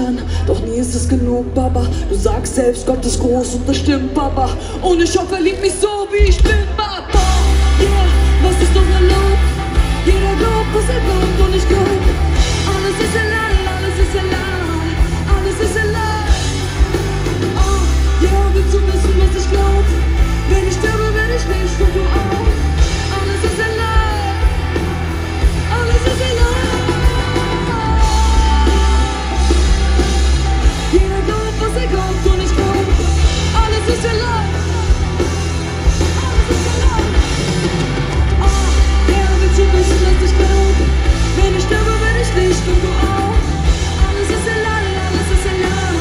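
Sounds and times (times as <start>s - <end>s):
heavy pulsing bass: 0.0s - 46.0s
live pop-rock band: 0.0s - 46.0s
person singing: 0.0s - 46.0s.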